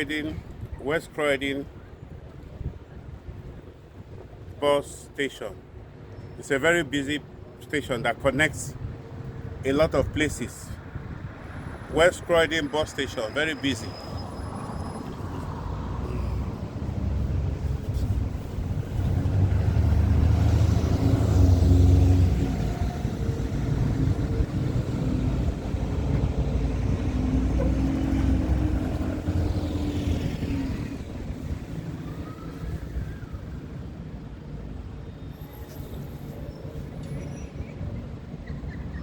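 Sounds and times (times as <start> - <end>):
buses passing: 0.0 - 39.0.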